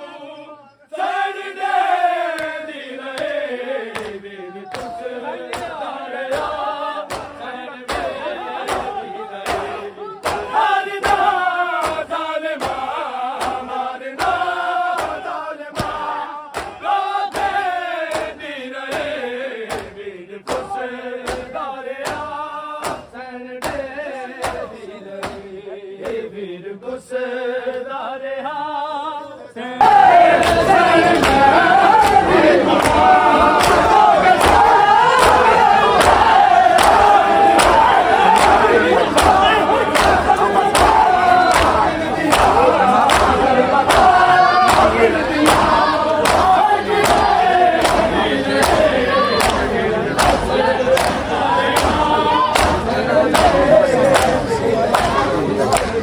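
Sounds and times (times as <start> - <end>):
crowd shouting: 0.0 - 26.3, 29.6 - 56.0
men chanting a lament: 0.0 - 56.0.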